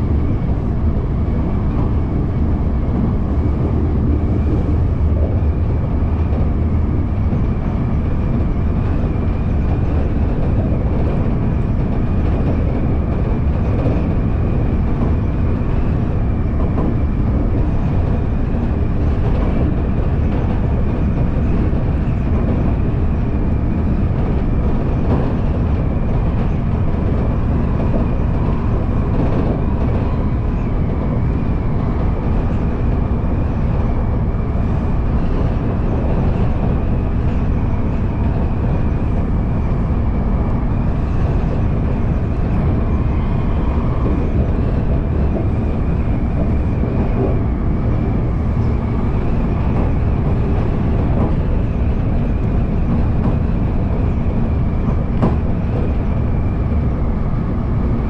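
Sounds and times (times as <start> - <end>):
rumble of train wheels on rail: 0.0 - 58.0.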